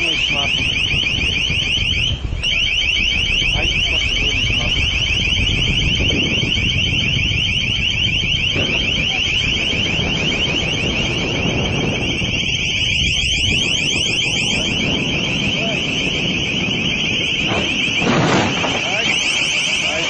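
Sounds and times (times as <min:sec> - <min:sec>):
high-pitched electronic alarm tone: 0:00.0 - 0:20.0.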